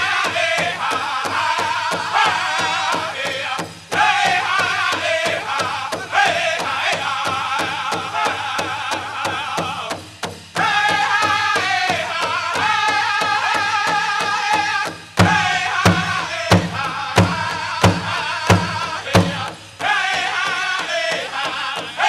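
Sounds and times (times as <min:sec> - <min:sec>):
high wavering group singing: 0:00.0 - 0:10.0, 0:10.6 - 0:22.0
large drum beating: 0:00.0 - 0:22.0.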